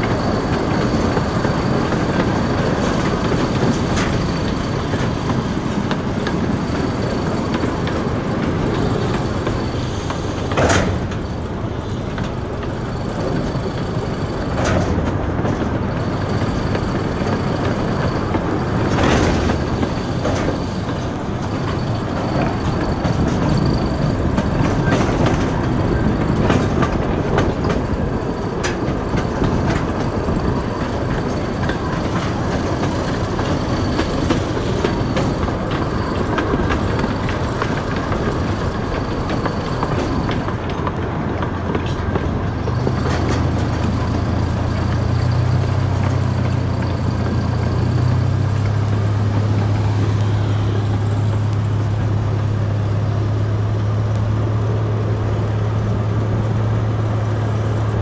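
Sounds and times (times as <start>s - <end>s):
high wheel squeal: 0.0s - 58.0s
train wheels rumbling: 0.0s - 58.0s
wheels clacking over rail joints: 0.0s - 58.0s.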